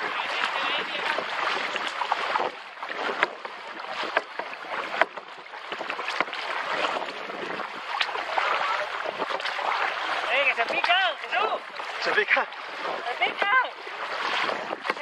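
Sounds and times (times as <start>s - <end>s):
paddle stroke splashes: 0.0s - 15.0s
water sloshing around kayak: 0.0s - 15.0s.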